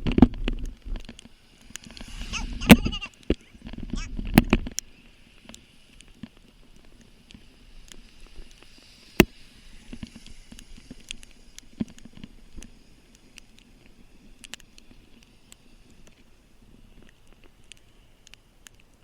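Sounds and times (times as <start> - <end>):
faint hiss: 0.0 - 19.0
raindrops tapping on microphone: 0.0 - 19.0.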